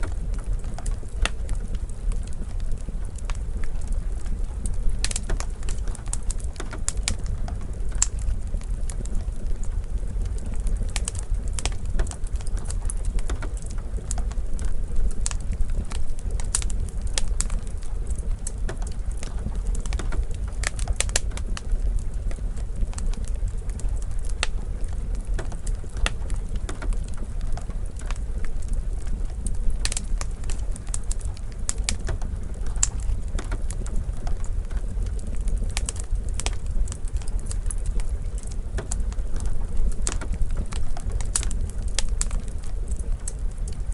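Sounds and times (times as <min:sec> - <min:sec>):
low fire rumble: 0:00.0 - 0:43.9
wood fire crackling and popping: 0:00.0 - 0:43.9.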